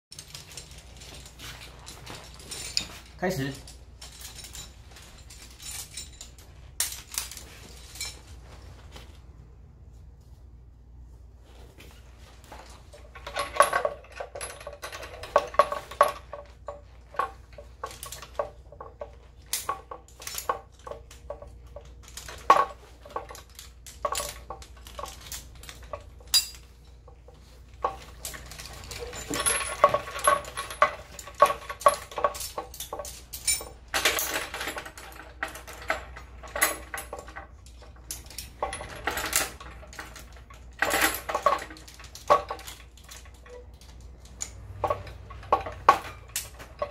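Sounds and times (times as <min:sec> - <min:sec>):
metal carabiners and chains clinking: 0:00.1 - 0:08.6, 0:11.9 - 0:46.9.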